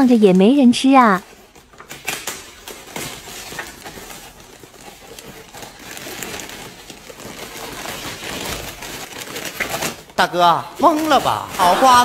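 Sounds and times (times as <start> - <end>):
paper wrapping rustling and tearing: 0.0 - 12.0.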